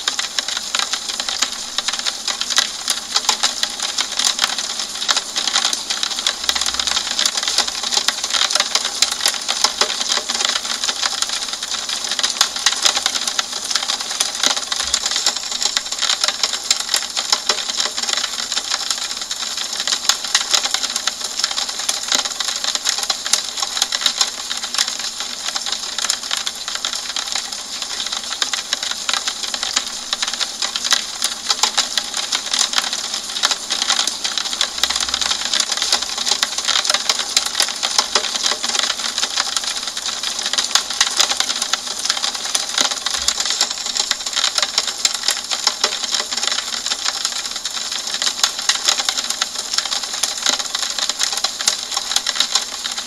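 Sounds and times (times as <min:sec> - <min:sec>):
rain tapping on window: 0:00.0 - 0:53.0.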